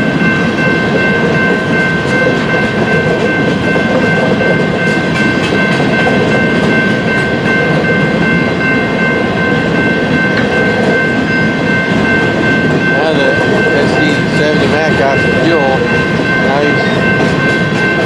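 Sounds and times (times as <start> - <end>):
steady high-pitched tone: 0.0 - 18.0
train wheels rumbling on rails: 0.0 - 18.0.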